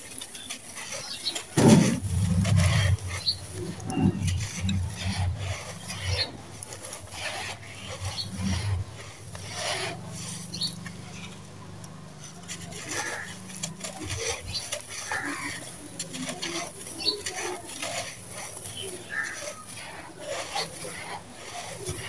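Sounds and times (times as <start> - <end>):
grit pattering: 0.0 - 22.0
gritty mix crunching by hand: 0.0 - 22.0.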